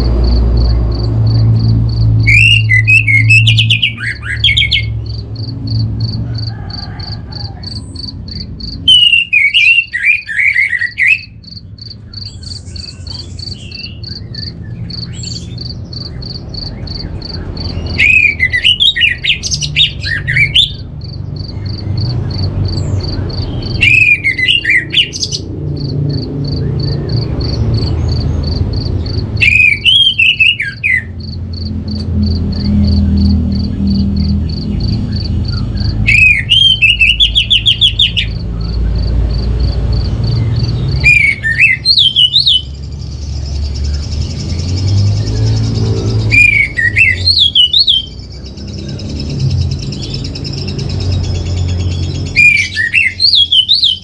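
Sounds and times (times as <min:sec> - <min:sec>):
pulsing insect trill: 0:00.0 - 0:09.6, 0:11.1 - 0:52.4.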